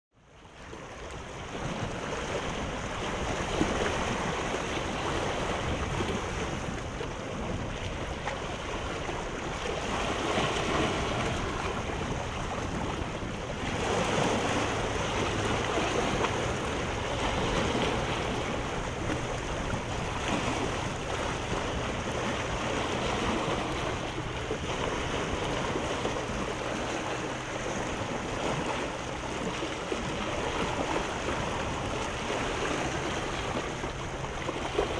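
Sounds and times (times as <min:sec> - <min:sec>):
sea surf washing in: 0:00.6 - 0:34.9
wind noise on microphone: 0:00.6 - 0:34.9.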